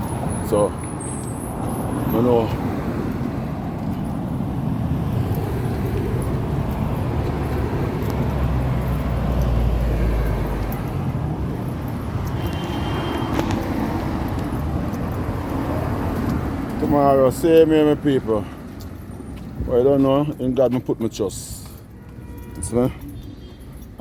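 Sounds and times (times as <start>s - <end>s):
vehicle passing: 0.0s - 19.8s
road traffic rumble: 0.0s - 24.0s.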